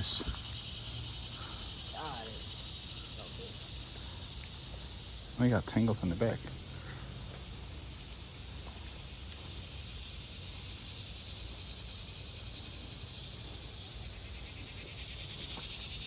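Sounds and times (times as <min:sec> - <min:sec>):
insect chorus trilling: 0:00.0 - 0:16.0.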